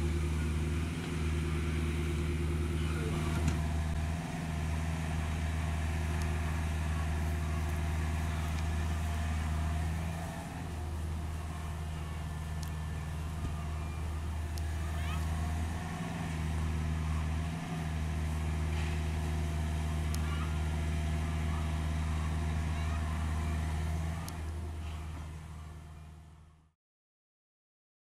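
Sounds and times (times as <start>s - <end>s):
excavator diesel engine: 0.0s - 26.8s.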